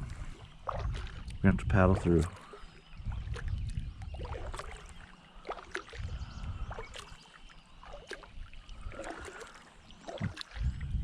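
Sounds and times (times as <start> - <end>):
paddle strokes in water: 0.0 - 11.0.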